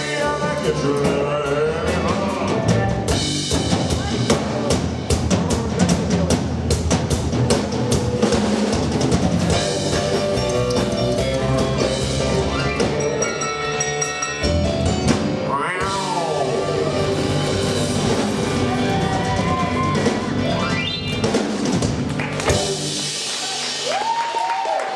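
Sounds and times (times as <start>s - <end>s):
fast drum strokes: 0.0s - 13.0s, 15.1s - 24.2s
rockabilly band playing: 0.0s - 24.8s.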